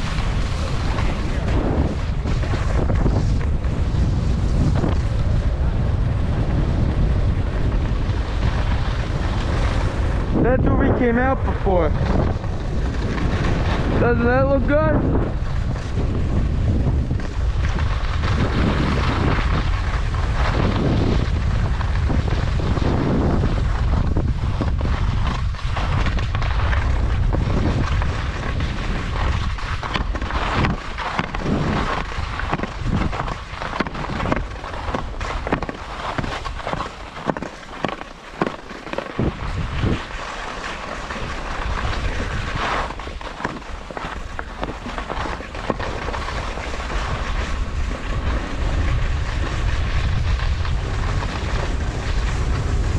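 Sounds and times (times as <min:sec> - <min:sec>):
skis scraping over snow: 0:00.0 - 0:52.9
wind buffeting microphone: 0:00.0 - 0:52.9.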